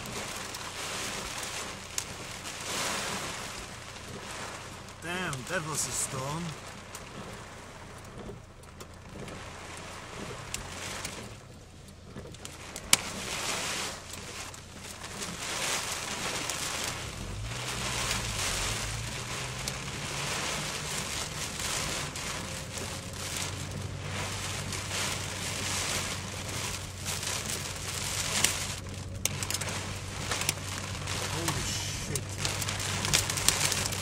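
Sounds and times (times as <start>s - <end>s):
heavy rain on car roof: 0.0s - 34.0s
low engine hum: 0.0s - 34.0s.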